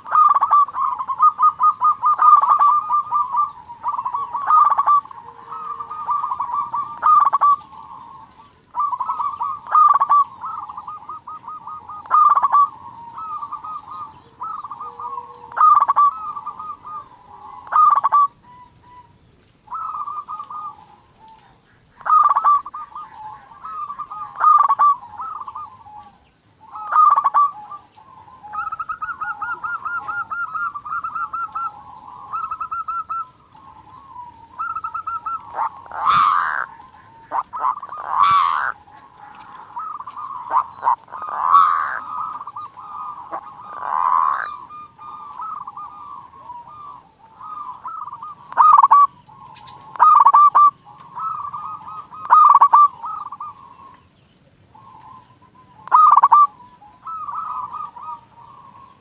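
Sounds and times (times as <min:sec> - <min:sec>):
dove cooing with rolling trills: 0:00.0 - 0:59.0
sharp bird calls: 0:00.0 - 0:59.0.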